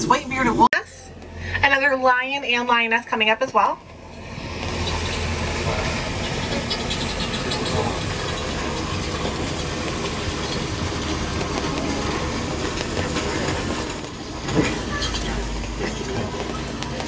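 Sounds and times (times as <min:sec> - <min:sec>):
road noise: 0:00.0 - 0:17.0
truck engine hum: 0:00.0 - 0:17.0.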